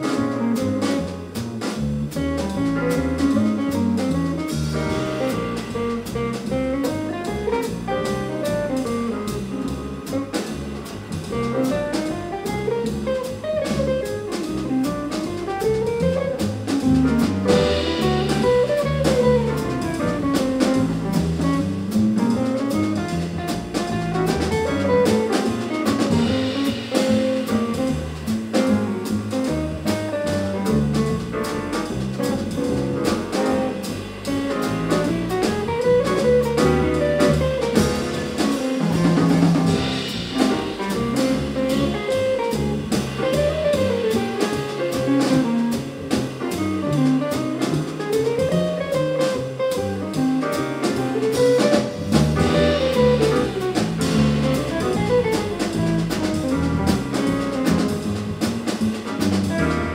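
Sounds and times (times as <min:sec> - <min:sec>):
double bass low notes: 0:00.0 - 0:59.9
drum cymbals: 0:00.0 - 0:59.9
jazz quartet playing: 0:00.0 - 0:59.9.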